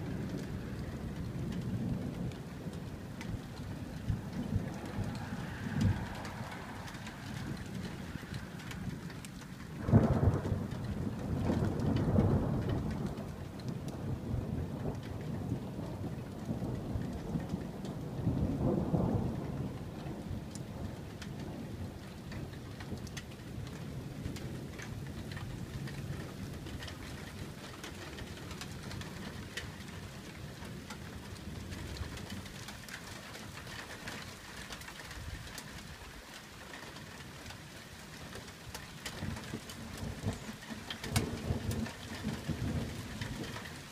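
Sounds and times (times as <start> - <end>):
thunder rumbling: 0.0 - 35.9, 36.8 - 43.9
raindrops ticking: 0.0 - 43.9
steady rain: 0.0 - 43.9.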